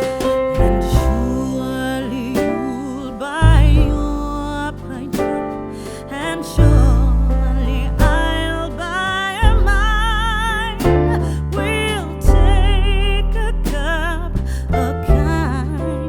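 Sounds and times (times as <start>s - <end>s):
deep bass notes: 0.0s - 16.0s.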